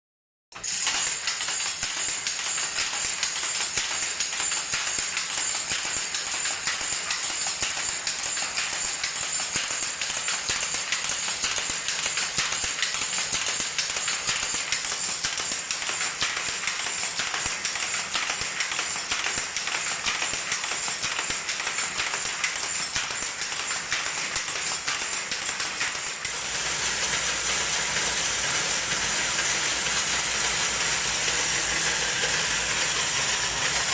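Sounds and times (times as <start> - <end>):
loom rhythmic mechanical clatter: 0.5 - 33.9
pirn winder machine noise: 0.6 - 33.9.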